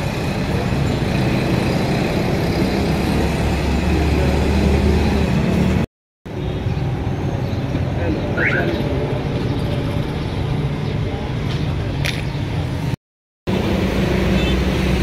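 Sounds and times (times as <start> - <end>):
low rumbling street traffic: 0.0 - 15.0.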